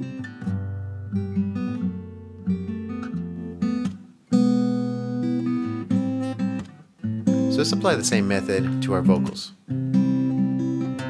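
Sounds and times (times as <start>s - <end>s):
fingerpicked acoustic guitar: 0.0s - 11.0s.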